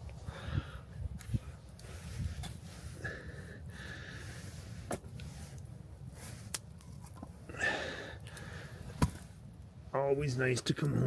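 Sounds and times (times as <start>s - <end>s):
fire crackles: 1.1s - 11.0s.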